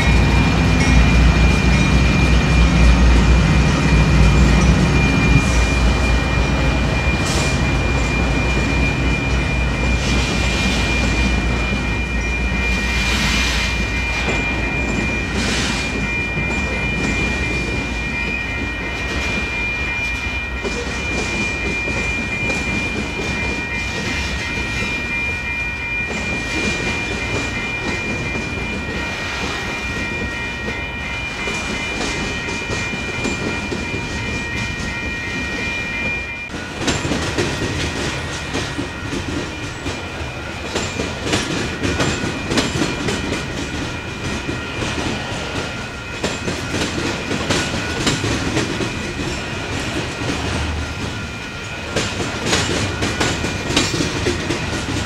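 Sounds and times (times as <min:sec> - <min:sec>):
steady high-pitched tone: 0:00.0 - 0:55.0.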